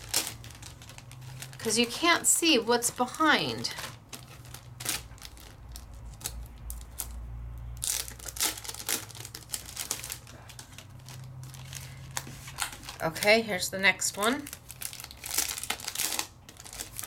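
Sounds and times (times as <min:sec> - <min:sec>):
plastic packaging crinkling: 0:00.0 - 0:07.2, 0:07.8 - 0:17.0.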